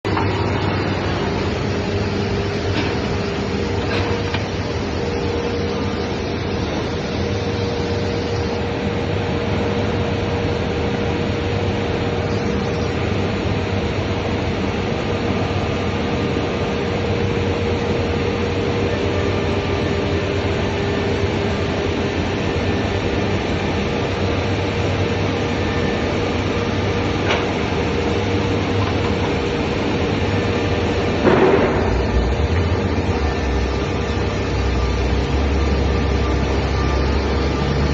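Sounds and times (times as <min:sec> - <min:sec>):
machine humming: 0:00.0 - 0:37.9.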